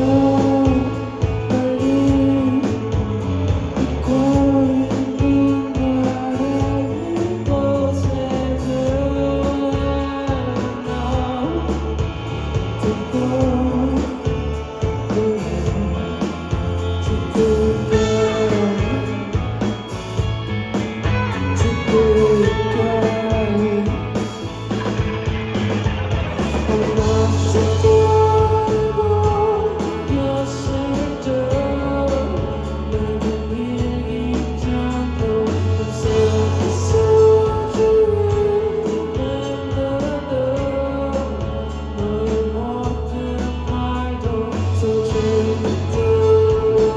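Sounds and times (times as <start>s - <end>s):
person singing: 0.0s - 25.3s, 26.3s - 46.9s
live rock band: 0.0s - 46.9s.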